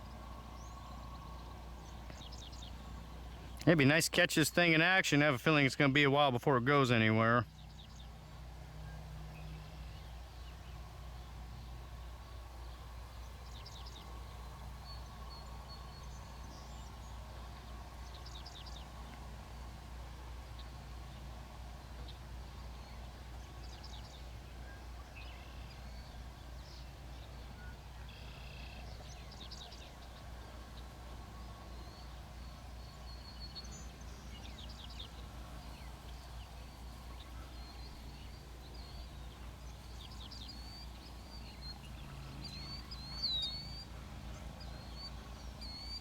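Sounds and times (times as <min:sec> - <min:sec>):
steady low hum: 0:00.0 - 0:06.4, 0:07.0 - 0:46.0
small birds chirping: 0:00.0 - 0:46.0.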